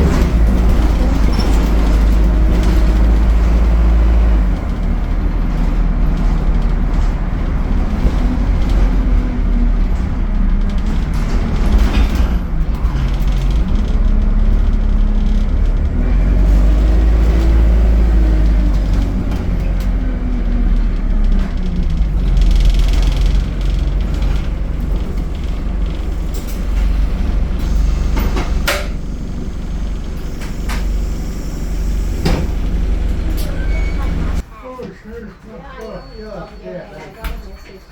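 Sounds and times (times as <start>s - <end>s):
bus engine rumbling: 0.0s - 37.9s.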